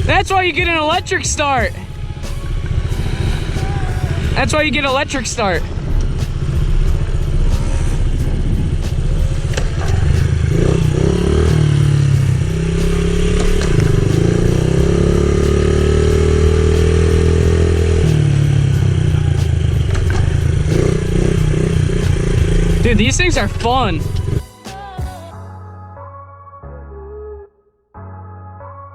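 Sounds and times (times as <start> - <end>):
pit bike engine revving: 0.0 - 24.4.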